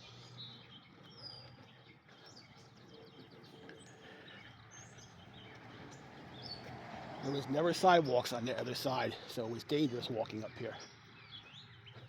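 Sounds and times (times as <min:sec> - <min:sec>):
birds chirping: 0:00.0 - 0:12.0
quiet outdoor background noise: 0:00.0 - 0:12.0.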